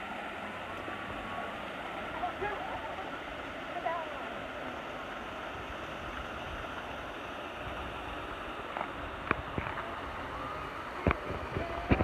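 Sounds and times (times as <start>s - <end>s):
water rushing at a dam: 0.0s - 12.0s.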